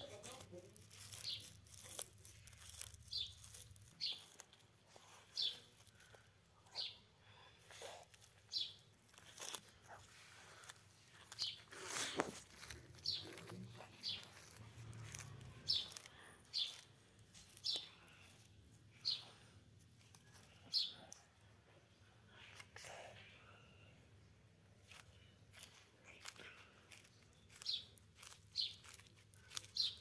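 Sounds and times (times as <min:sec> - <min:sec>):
tortoise tearing leaves: 0:00.0 - 0:21.1, 0:24.6 - 0:30.0
small bird chirping: 0:00.0 - 0:21.3, 0:25.2 - 0:30.0.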